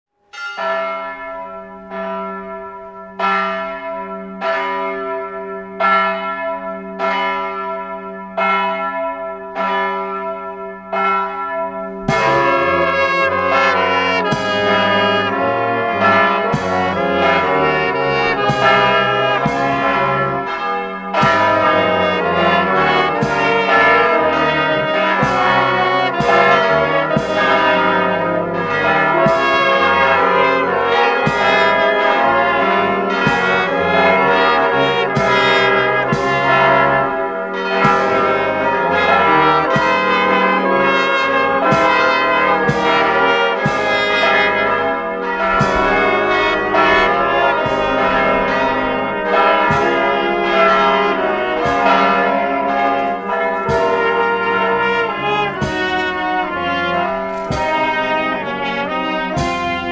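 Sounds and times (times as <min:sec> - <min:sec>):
church bell tolling: 0:00.3 - 0:59.9.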